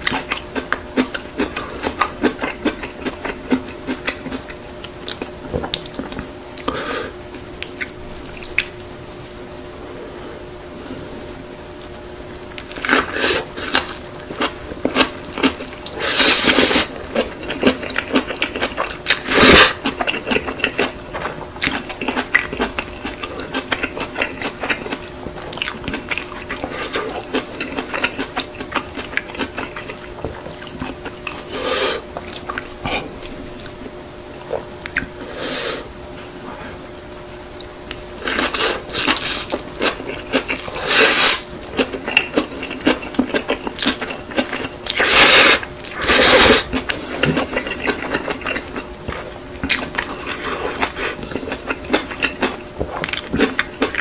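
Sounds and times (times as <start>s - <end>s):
wet crunchy chewing: 0.0s - 6.8s, 12.5s - 35.3s, 36.2s - 54.0s
faint steady hum: 0.0s - 54.0s.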